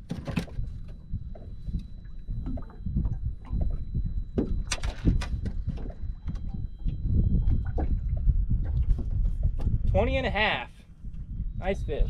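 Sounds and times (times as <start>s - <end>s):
knocks and rattles on boat: 0.0s - 11.3s
water lapping against hull: 0.0s - 11.3s
low rumble: 0.0s - 12.0s.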